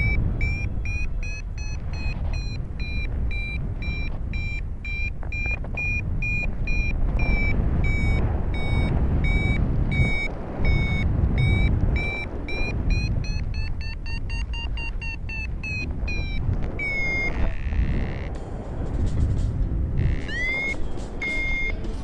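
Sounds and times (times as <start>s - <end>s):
variometer beeping: 0.0s - 18.9s, 19.6s - 22.0s
wind noise on microphone: 0.0s - 22.0s.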